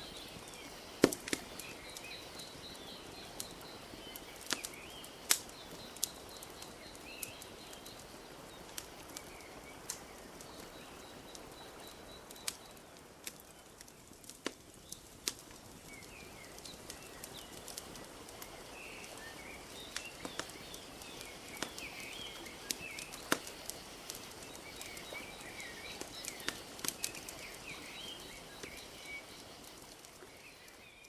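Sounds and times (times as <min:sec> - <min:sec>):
small birds chirping: 0:00.0 - 0:31.0
wood fire crackling and popping: 0:00.0 - 0:31.0.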